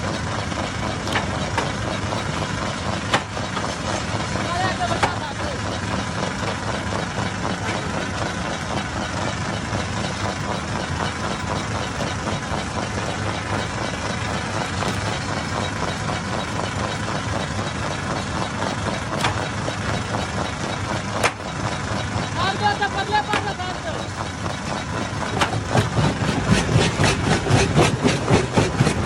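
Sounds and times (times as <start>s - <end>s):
stone crusher mechanical clatter: 0.0s - 29.0s.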